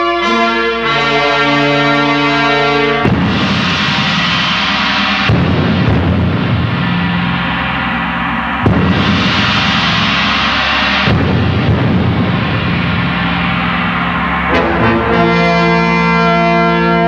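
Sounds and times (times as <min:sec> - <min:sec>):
crashing percussion strikes: 0:00.0 - 0:17.0
loud music: 0:00.0 - 0:17.0.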